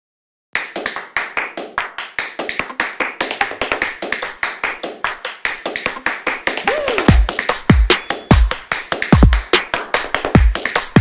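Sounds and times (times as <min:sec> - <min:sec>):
sharp clap-like percussion hits: 0:00.6 - 0:11.0.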